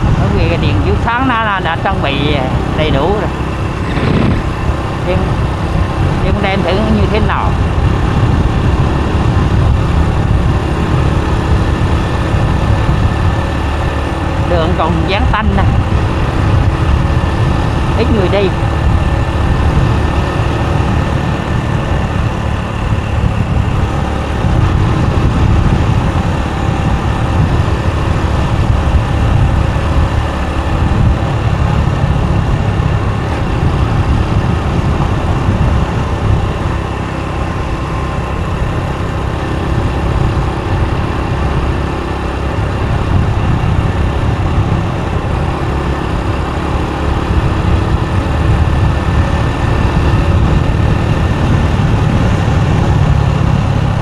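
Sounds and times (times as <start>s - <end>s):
motorbike engine rumble: 0.0s - 54.0s
road noise: 0.0s - 54.0s.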